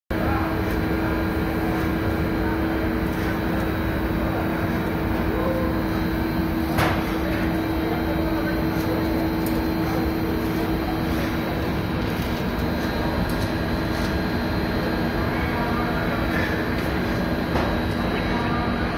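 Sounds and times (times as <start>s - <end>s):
conveyor machinery humming: 0.1s - 18.9s.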